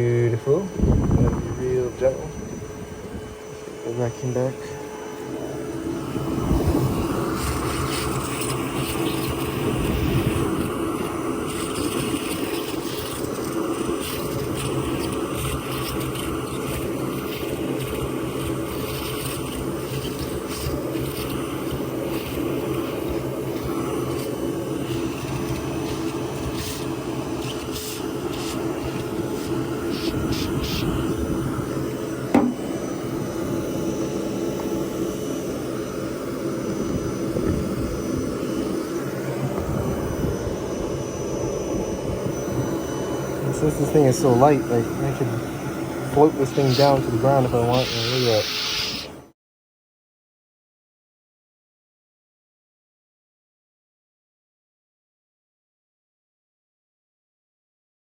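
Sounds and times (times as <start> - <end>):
vacuum motor hum: 0.0 - 49.3.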